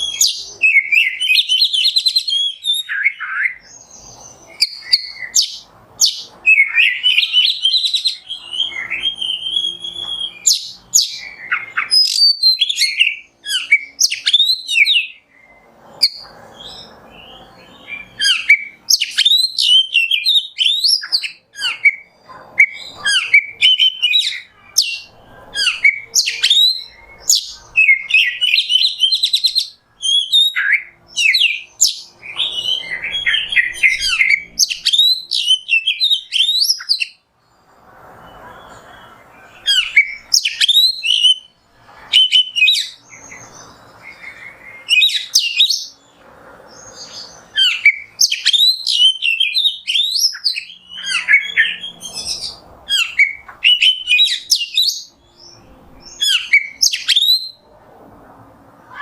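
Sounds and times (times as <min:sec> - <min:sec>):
bird singing whistles and chirps: 0:00.0 - 0:46.1, 0:46.7 - 0:57.7.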